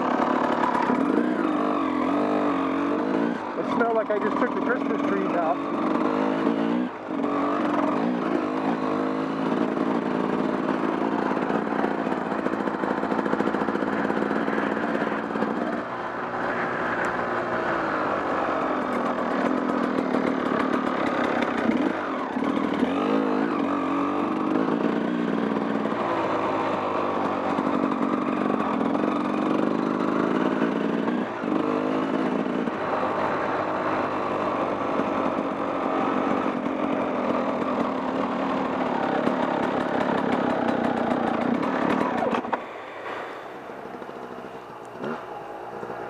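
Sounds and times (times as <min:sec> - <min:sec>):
off-road motorcycle engine revving: 0:00.0 - 0:46.0.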